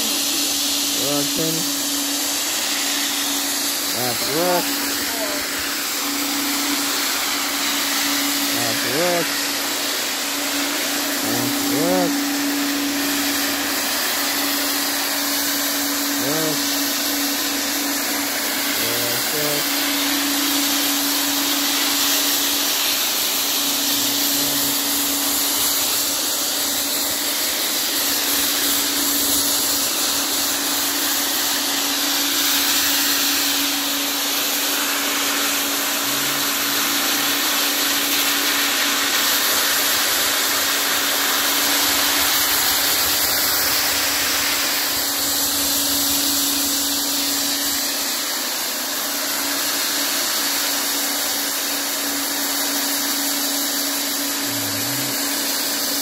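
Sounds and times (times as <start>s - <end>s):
floor sanding machine running: 0.0s - 56.0s
sanding pad hissing on floor: 0.0s - 56.0s.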